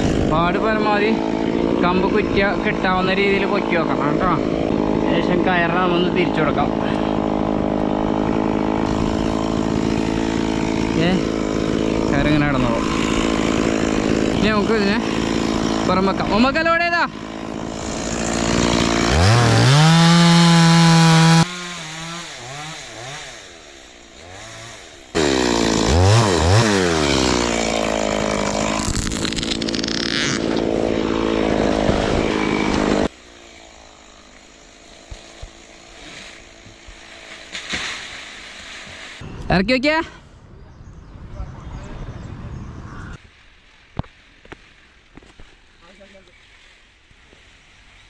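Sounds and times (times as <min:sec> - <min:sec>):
chainsaw revving: 0:00.0 - 0:39.2.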